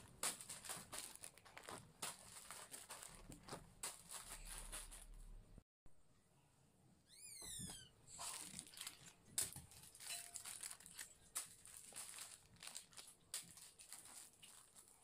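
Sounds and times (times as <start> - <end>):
plastic packets crinkling: 0.0 - 5.2, 8.1 - 15.0.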